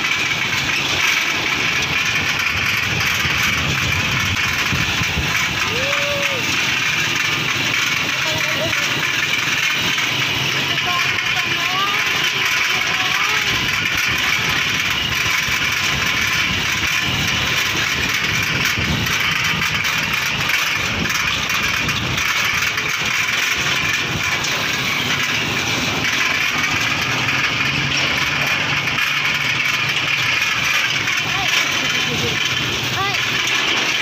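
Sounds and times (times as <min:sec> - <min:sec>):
wind and road noise: 0:00.0 - 0:11.2, 0:12.0 - 0:34.0
motorcycle engine running: 0:00.0 - 0:34.0.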